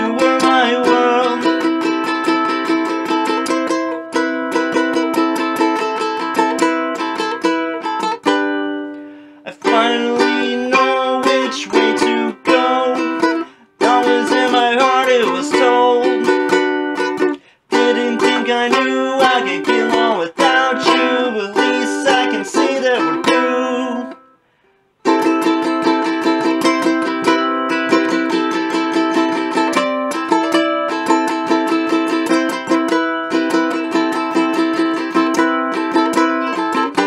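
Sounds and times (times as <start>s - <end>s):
ukulele playing chords: 0.0s - 24.4s, 25.0s - 37.0s.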